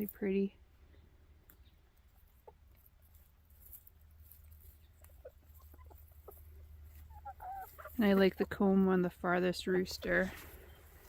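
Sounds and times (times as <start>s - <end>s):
chickens clucking softly: 1.0s - 11.0s.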